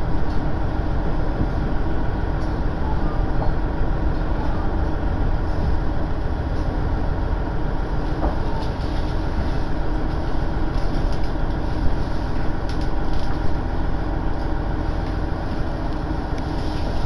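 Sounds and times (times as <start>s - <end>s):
diesel railcar rumble: 0.0s - 17.0s.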